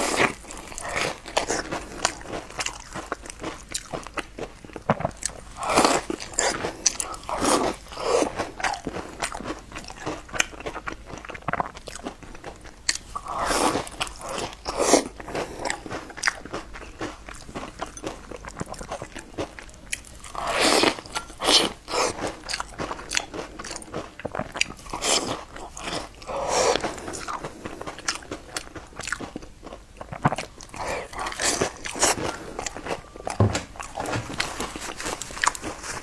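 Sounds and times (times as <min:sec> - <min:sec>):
crunchy food being chewed: 0:00.0 - 0:36.0.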